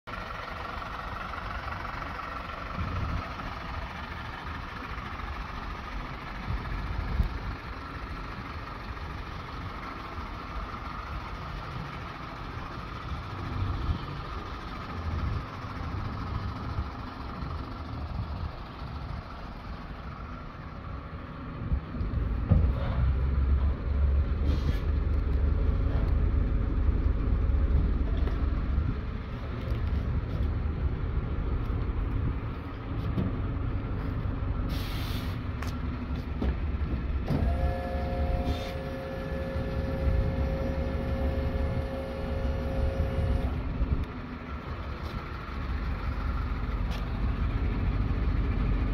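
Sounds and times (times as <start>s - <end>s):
vehicle-like background hum: 0.0s - 48.9s
low rumbles: 0.1s - 48.9s.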